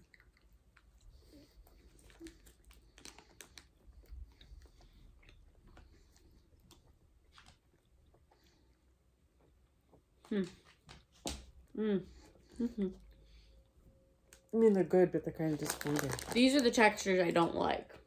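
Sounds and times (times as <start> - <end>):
people chewing with mouth clicks: 0.0 - 14.5.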